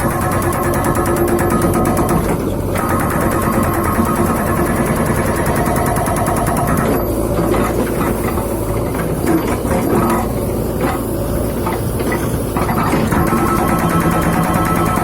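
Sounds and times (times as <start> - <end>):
rapid continuous hammering: 0.0 - 7.1, 7.7 - 15.0.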